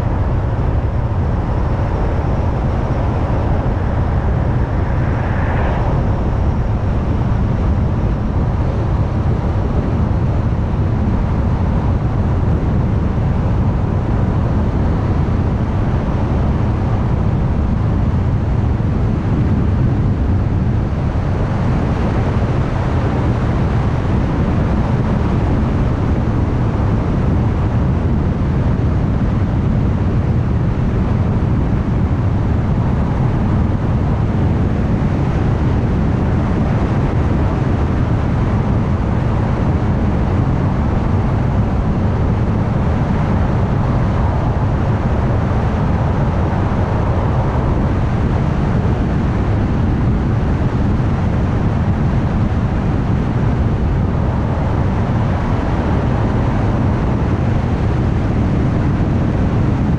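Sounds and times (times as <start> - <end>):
car driving at highway speed: 0.0 - 59.9.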